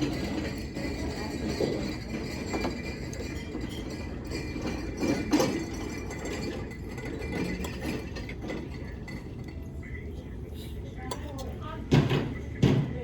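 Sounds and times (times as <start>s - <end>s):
dishes and cutlery clinking: 0.0s - 13.0s
restaurant background noise: 0.0s - 13.0s.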